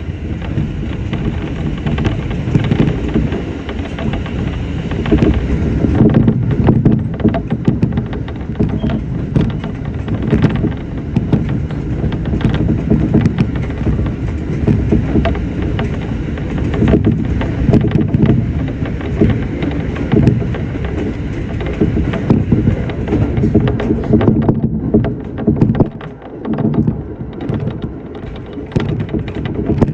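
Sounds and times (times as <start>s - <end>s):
train clicks and rattles: 0.0s - 29.9s
train rumbling: 0.0s - 29.9s.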